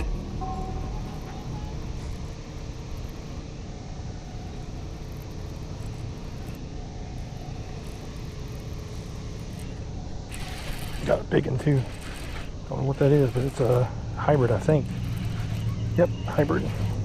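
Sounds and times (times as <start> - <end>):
faint hum: 0.0 - 17.0
low rumble with hiss: 0.0 - 17.0.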